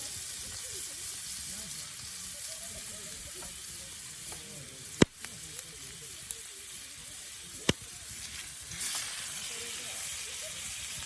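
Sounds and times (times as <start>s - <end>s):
food sizzling over fire: 0.0s - 11.0s.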